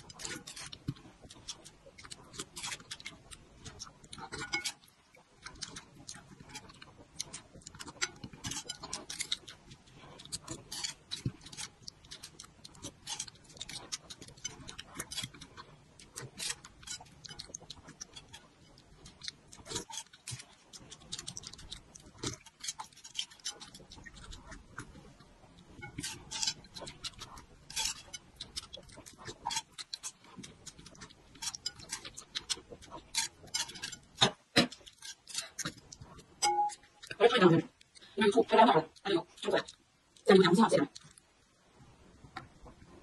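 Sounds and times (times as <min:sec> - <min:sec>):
chewing with wet mouth clicks: 0:00.0 - 0:38.2, 0:38.9 - 0:41.5.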